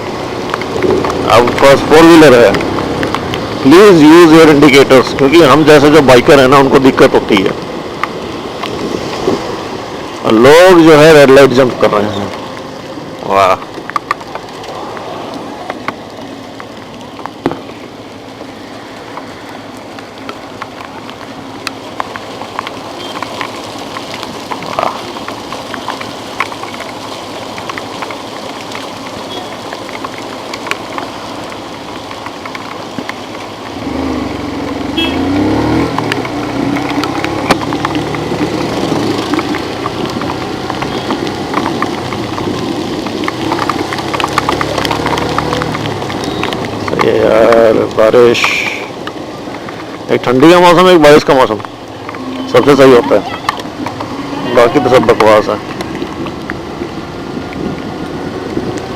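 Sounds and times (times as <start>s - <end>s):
rain hiss: 0.0s - 58.9s
raindrop ticks: 0.0s - 58.9s
vehicle engine hum: 0.0s - 58.9s.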